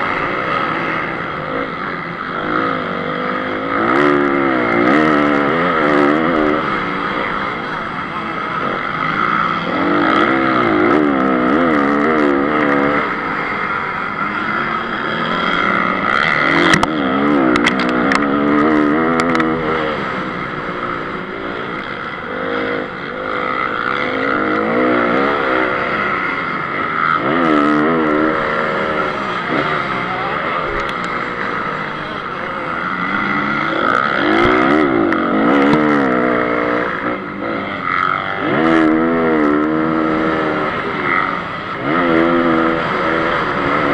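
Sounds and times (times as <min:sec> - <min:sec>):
motocross engine revving: 0:00.0 - 0:43.9.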